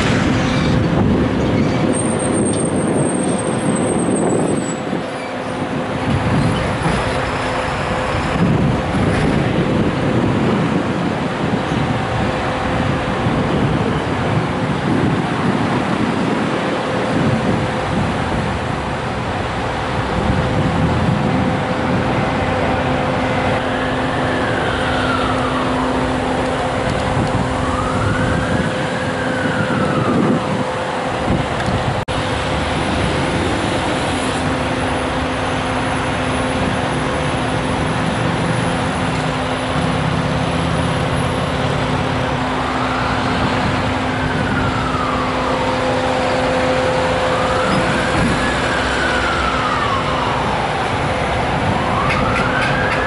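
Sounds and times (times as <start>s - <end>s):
emergency siren wailing: 0.0s - 53.0s
idling engines and road traffic: 0.0s - 53.0s.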